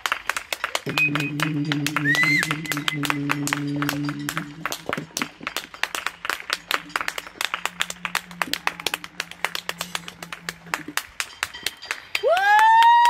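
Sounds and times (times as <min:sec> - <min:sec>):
people clapping: 0:00.0 - 0:13.0.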